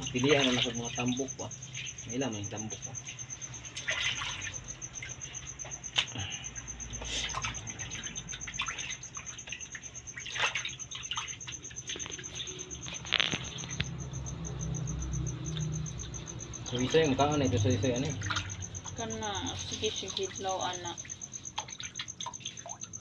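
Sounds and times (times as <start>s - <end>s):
water splashing in basin: 0.0s - 6.2s, 6.8s - 23.0s
cricket chirring: 0.0s - 23.0s.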